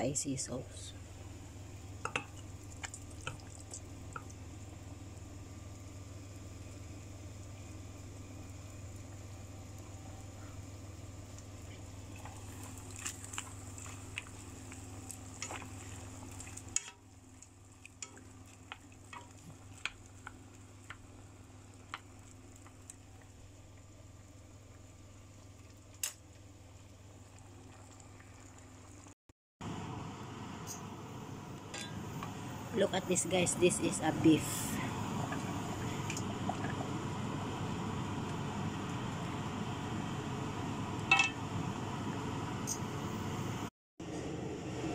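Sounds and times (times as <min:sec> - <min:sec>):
steady low hum: 0:00.0 - 0:44.7
broth simmering with pops: 0:01.0 - 0:30.0, 0:31.5 - 0:43.7.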